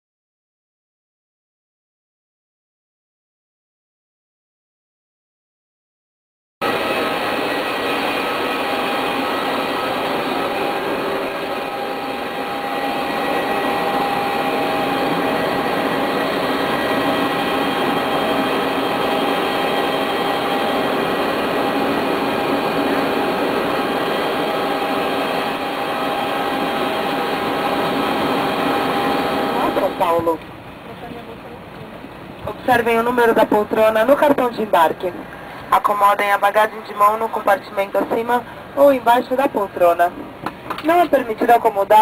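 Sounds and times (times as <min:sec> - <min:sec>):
jet airliner machinery rush and whine: 0:06.6 - 0:41.9.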